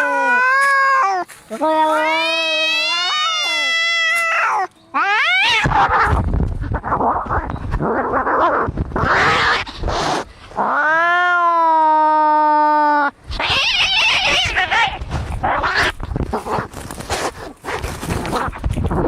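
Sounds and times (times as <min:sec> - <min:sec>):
cats fighting and yowling: 0:00.0 - 0:19.0.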